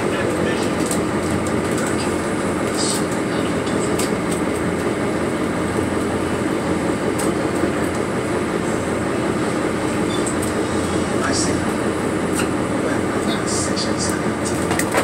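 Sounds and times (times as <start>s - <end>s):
boat engines droning: 0.0s - 15.0s.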